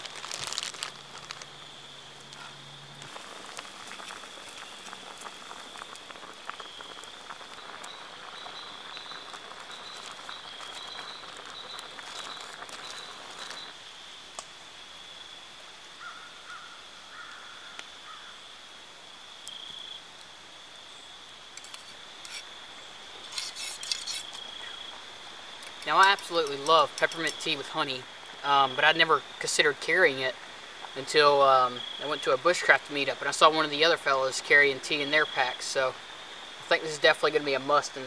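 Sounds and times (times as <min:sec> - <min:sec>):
water hissing in a metal pot: 0:00.0 - 0:15.8, 0:21.4 - 0:38.0
high-pitched insect trill: 0:00.0 - 0:38.0.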